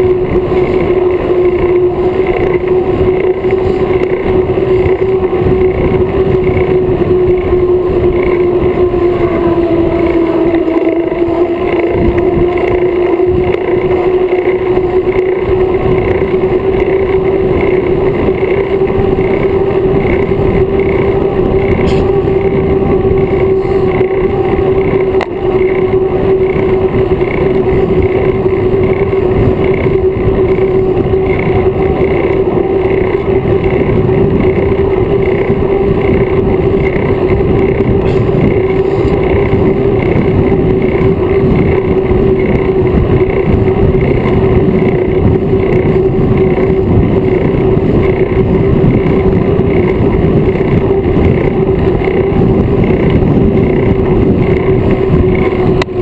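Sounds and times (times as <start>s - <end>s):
bicycle tyre noise: 0.0s - 56.0s
wind rush: 0.0s - 56.0s.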